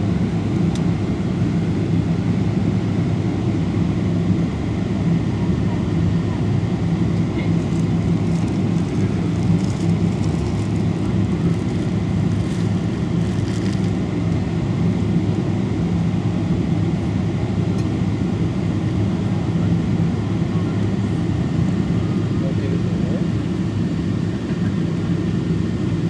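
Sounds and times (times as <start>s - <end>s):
airplane engines droning: 0.0s - 26.0s.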